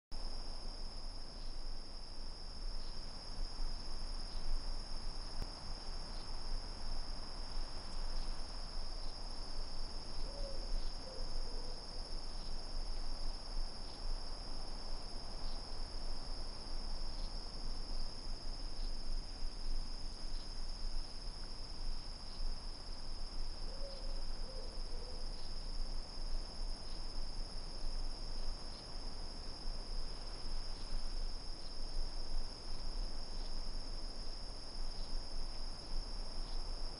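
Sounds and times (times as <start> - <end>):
crickets chirping: 0.2 - 36.9.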